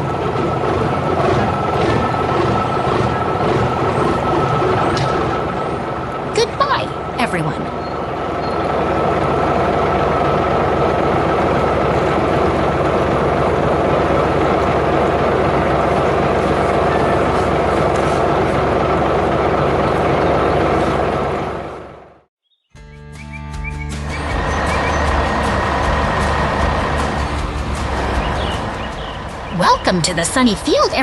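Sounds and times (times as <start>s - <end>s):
loud engine running: 0.0s - 22.3s, 24.0s - 31.0s.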